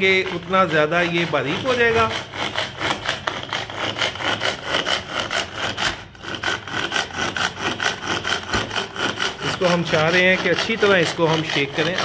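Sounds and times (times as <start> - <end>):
blender blades whirring in milk: 0.0 - 12.0.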